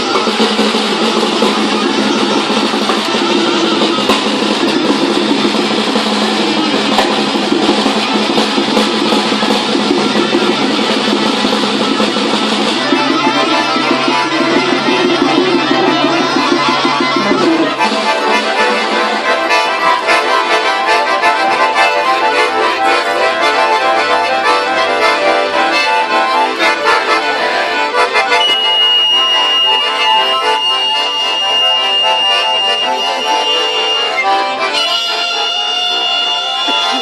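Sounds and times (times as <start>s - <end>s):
small instrumental ensemble playing: 0.0s - 37.0s.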